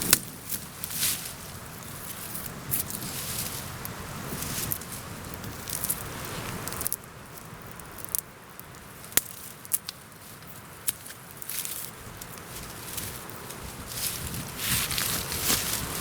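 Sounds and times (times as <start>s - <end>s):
dry twigs and needles rustling: 0.0s - 16.0s
small twigs snapping: 0.0s - 16.0s.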